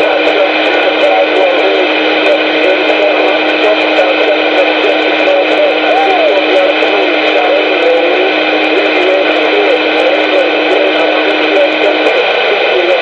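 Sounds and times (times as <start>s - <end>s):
radio hiss and hum: 0.0s - 13.0s
steady low tone: 0.0s - 13.0s
warbling radio tones: 0.0s - 13.0s.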